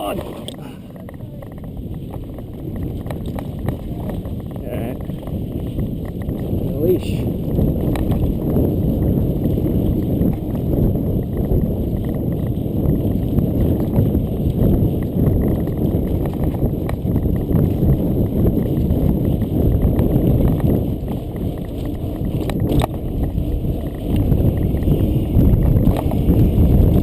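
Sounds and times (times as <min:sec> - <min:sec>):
bike rattling over cobbles: 0:00.0 - 0:27.0
low rumble: 0:00.0 - 0:27.0.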